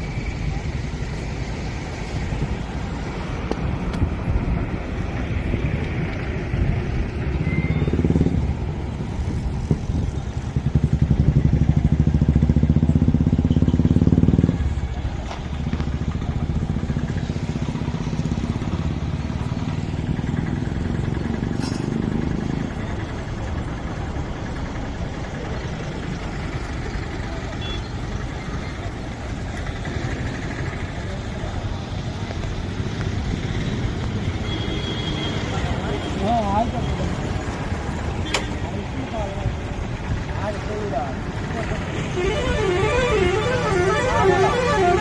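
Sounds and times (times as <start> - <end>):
diesel lorry engine running: 0.0 - 34.4, 35.5 - 45.0.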